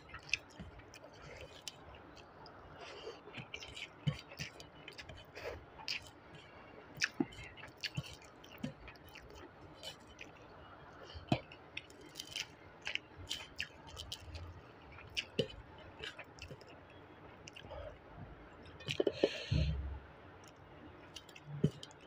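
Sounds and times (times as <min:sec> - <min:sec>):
chewing and mouth smacks: 0:00.0 - 0:17.8, 0:18.7 - 0:19.2, 0:20.4 - 0:22.0.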